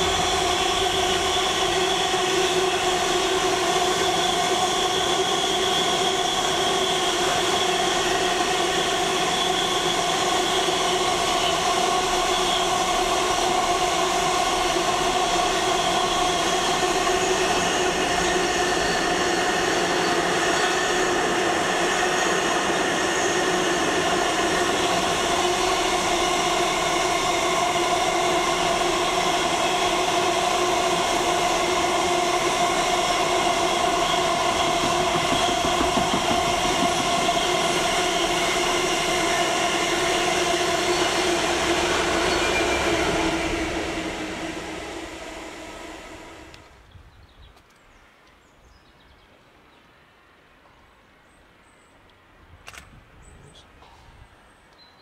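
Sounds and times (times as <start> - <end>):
steady whine: 0.0 - 46.8
train wheels rolling on rails: 0.0 - 47.9.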